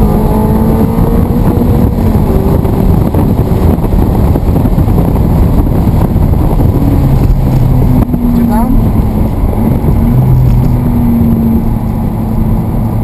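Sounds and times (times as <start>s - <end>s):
sports car driving at speed: 0.0s - 13.0s.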